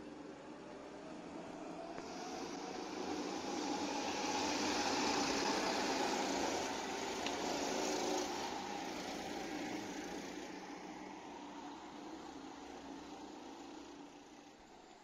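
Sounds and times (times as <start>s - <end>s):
hiss: 2.0s - 14.9s.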